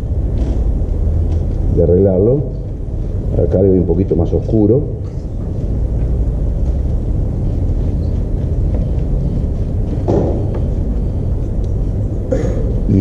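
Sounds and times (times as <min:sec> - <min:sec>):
low rumble of background noise: 0:00.0 - 0:13.0.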